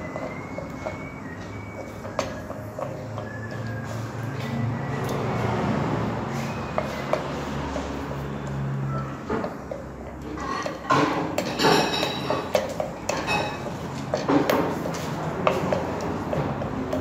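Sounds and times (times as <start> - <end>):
utensils clinking against dishes: 0.0 - 17.0.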